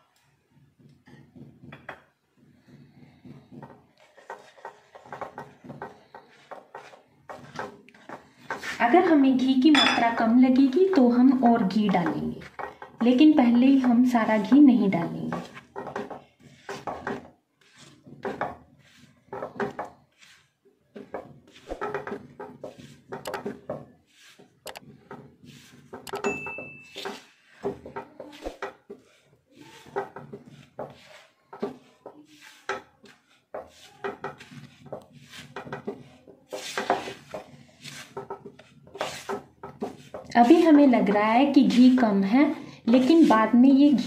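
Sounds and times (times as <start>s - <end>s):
spatula scraping a pan: 0.8s - 26.0s, 26.6s - 44.0s.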